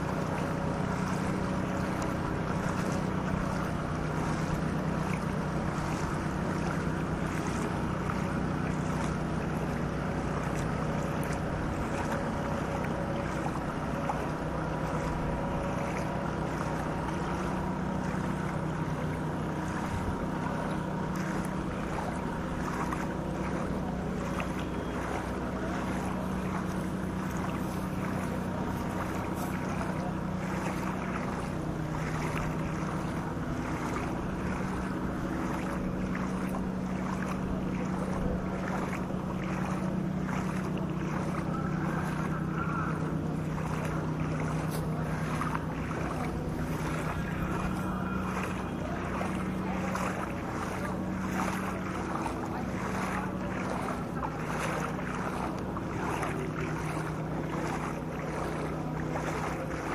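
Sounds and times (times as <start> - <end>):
motor humming: 0.0 - 59.9.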